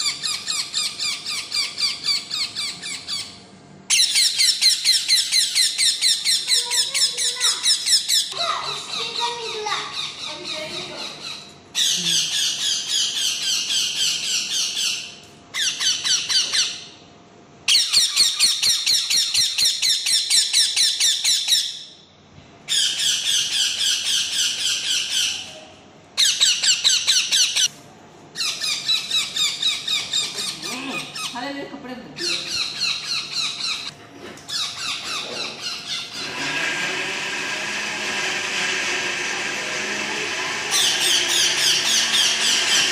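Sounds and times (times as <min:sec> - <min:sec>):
parakeets squawking: 0:00.0 - 0:17.0, 0:17.7 - 0:21.8, 0:22.7 - 0:25.6, 0:26.2 - 0:27.7, 0:28.4 - 0:42.9.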